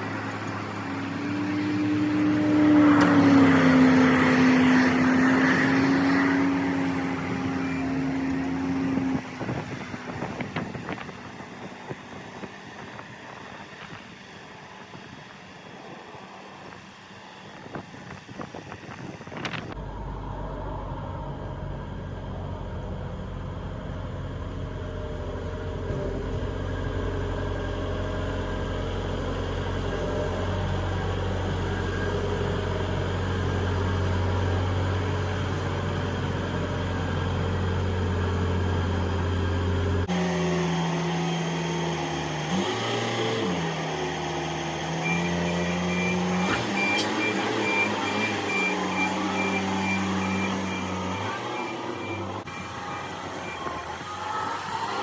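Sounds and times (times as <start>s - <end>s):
heavy machinery drone: 0.0s - 55.0s.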